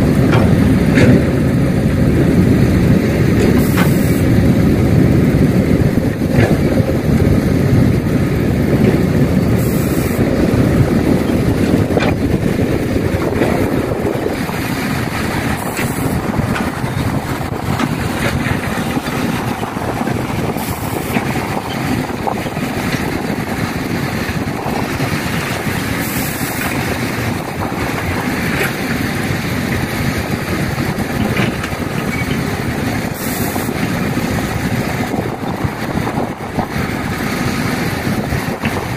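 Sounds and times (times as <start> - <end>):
heavy diesel machinery running: 0.0 - 38.9
wind buffeting microphone: 0.0 - 38.9.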